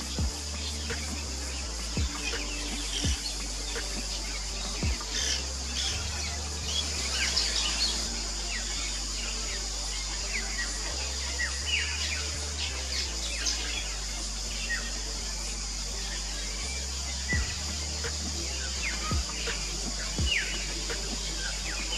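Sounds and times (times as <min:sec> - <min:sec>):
steady hiss: 0:00.0 - 0:21.9.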